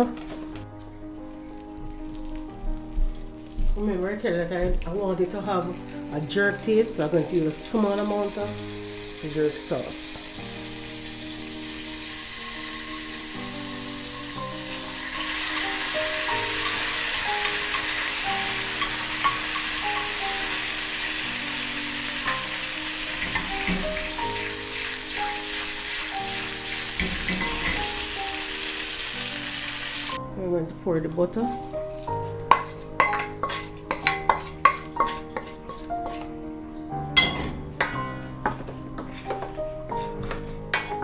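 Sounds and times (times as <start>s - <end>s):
background music: 0.0s - 41.0s
butter sizzling in a pan: 0.8s - 30.2s, 31.4s - 36.4s.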